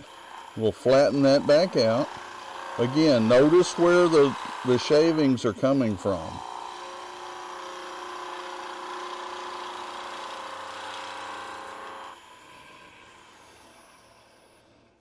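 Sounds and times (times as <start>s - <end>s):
chisel cutting spinning wood: 0.0s - 14.9s
lathe motor hum: 0.0s - 15.0s.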